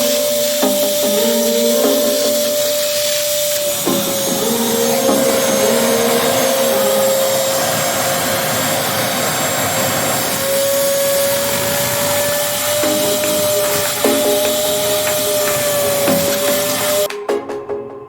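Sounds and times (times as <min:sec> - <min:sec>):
vacuum cleaner motor whine: 0:00.0 - 0:17.1.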